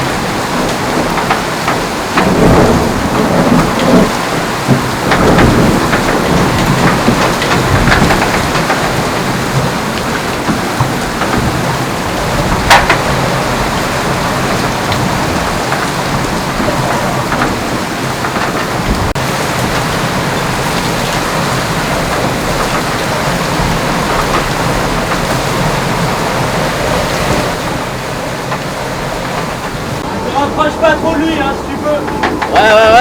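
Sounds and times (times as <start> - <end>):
rushing water: 0.0 - 33.0
water slapping the hull: 0.0 - 33.0
wind noise: 0.0 - 33.0.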